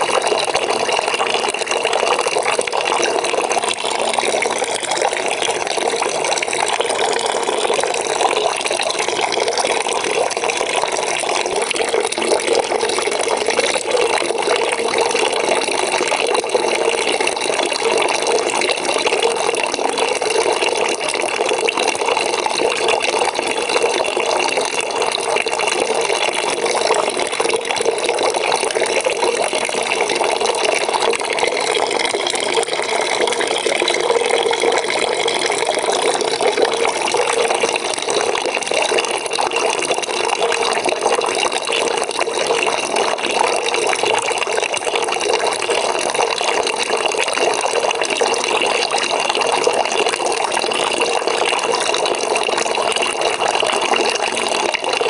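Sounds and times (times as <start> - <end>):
tap water running into a bucket: 0.0 - 55.0.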